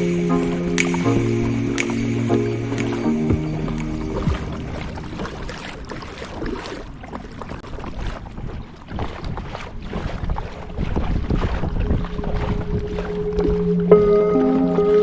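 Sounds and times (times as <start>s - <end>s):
wind rumble on microphone: 0.0s - 14.8s
paddle splashing in water: 0.0s - 15.0s.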